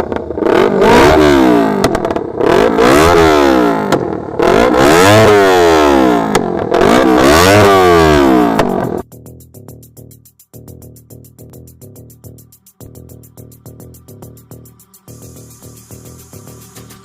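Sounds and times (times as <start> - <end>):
exhaust pops and crackles: 0.0 - 5.3, 6.2 - 7.4, 8.2 - 10.2, 10.8 - 17.0
motorcycle engine revving: 0.0 - 17.0.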